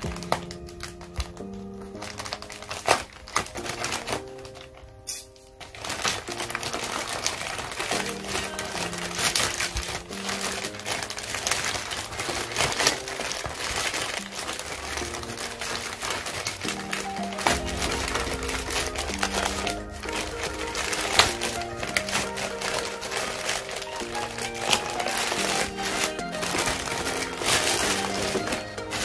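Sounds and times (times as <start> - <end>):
background music with held notes: 0.0 - 29.0
plastic mailer crinkling and tearing: 0.0 - 29.0.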